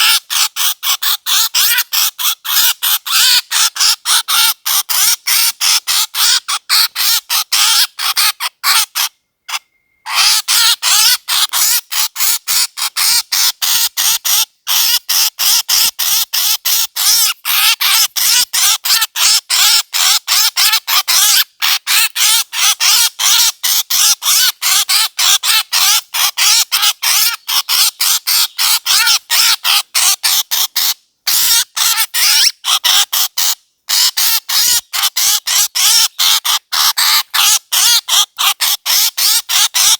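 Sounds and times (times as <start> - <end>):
squawking bird calls: 0.0 - 39.9.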